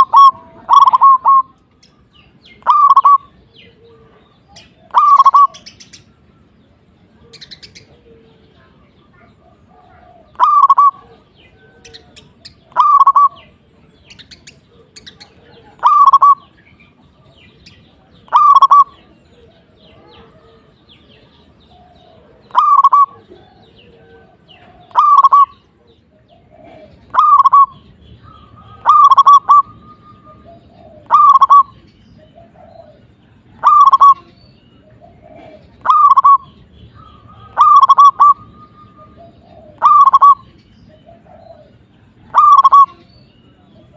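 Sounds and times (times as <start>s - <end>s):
dove cooing: 0.0s - 1.7s, 2.4s - 6.0s, 7.0s - 43.9s.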